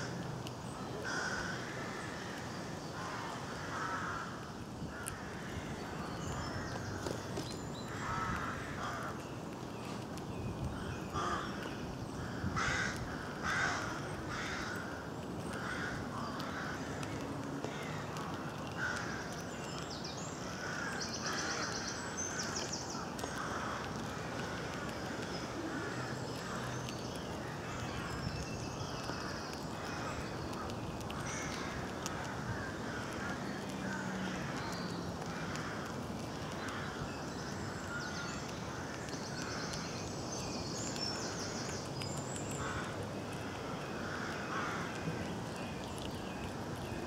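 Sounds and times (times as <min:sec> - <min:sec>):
birds calling: 0:00.0 - 0:47.0.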